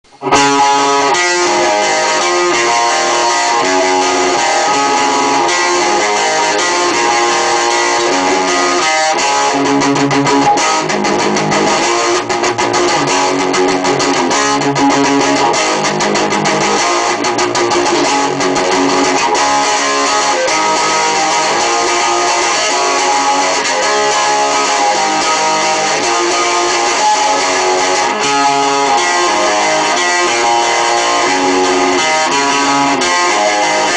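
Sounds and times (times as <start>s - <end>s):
guitar playing: 0.0s - 33.9s.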